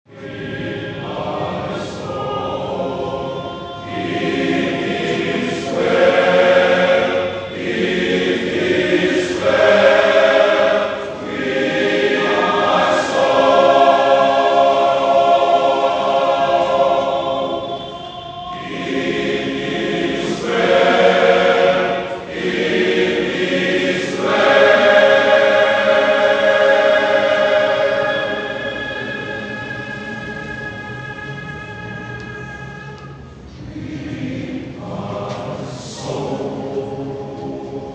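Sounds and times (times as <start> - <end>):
men's choir singing: 0.1 - 37.9.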